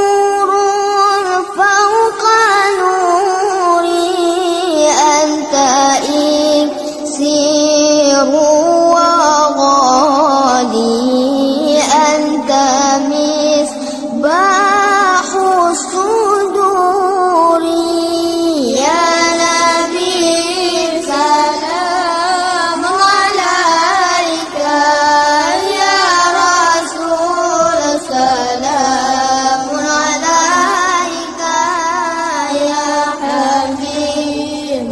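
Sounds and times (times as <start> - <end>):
person singing devotional song: 0.0 - 34.9.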